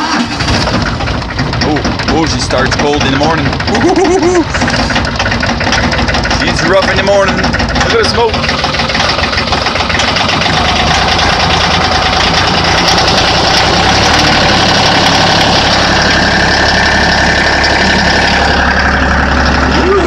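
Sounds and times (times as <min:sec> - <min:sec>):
diesel tractor engine idling rough: 0:00.0 - 0:20.0.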